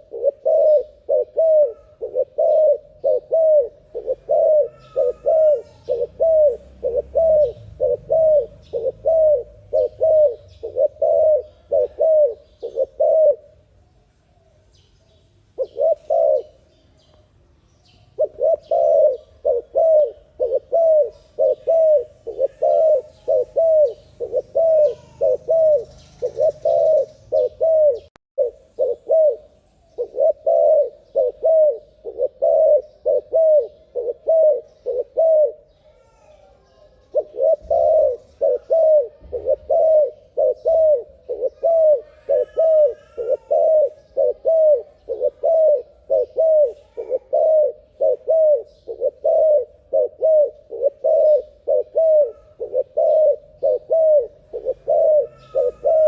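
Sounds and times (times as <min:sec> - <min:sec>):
turtle dove cooing: 0:00.0 - 0:13.7, 0:15.5 - 0:17.1, 0:17.8 - 0:56.0.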